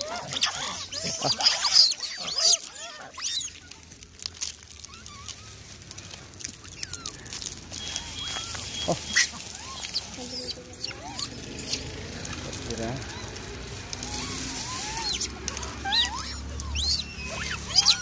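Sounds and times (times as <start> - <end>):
monkey squeaky calls: 0.0 - 18.0.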